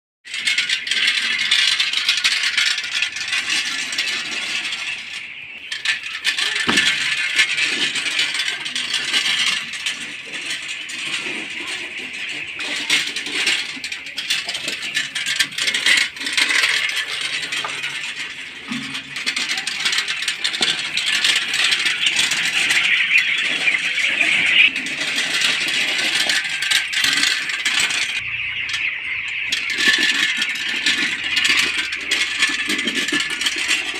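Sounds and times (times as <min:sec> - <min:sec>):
spiked roller rattling and scraping: 0:00.2 - 0:33.9.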